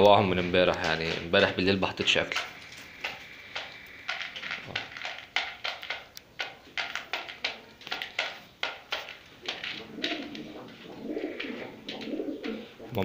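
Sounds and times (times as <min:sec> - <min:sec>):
pigeon pecking corn from plastic bowl: 0:00.0 - 0:13.0.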